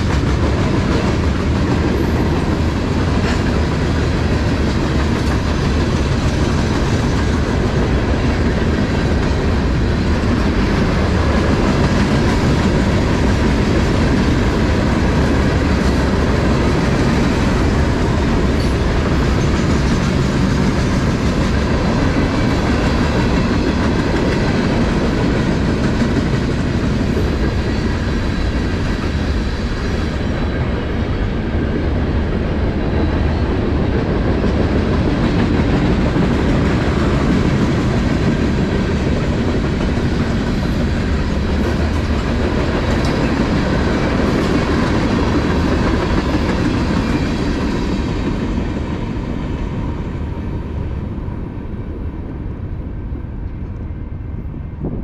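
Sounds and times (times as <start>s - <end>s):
clickety-clack of rail joints: 0.0s - 51.4s
train wheels rumbling on rail: 0.0s - 55.0s.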